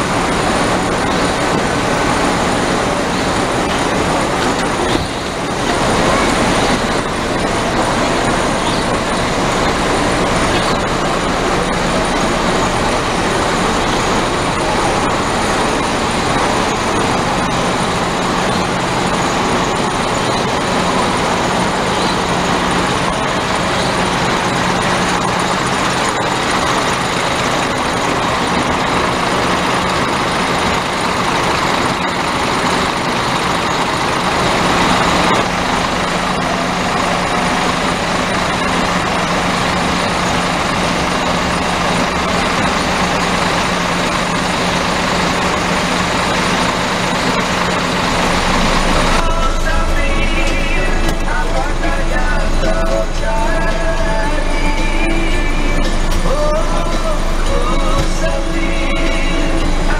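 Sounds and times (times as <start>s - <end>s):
diesel engines idling: 0.0s - 59.9s.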